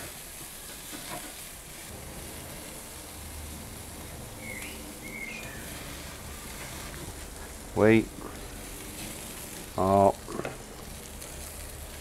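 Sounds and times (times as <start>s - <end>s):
burgers sizzling on a grill: 0.0s - 12.0s.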